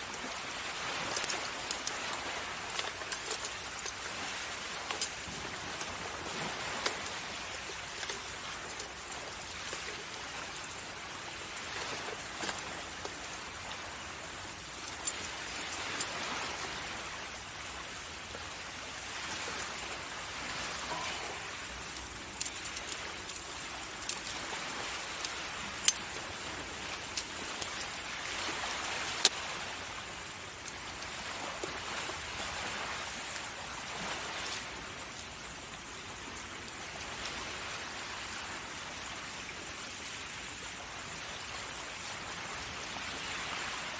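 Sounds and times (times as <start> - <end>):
waves washing on a beach: 0.0 - 43.9.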